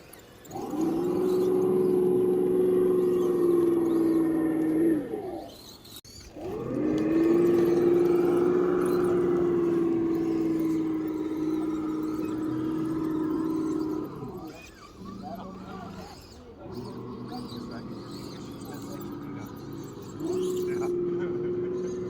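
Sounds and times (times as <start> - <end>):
electric motor whining: 0.4 - 22.0.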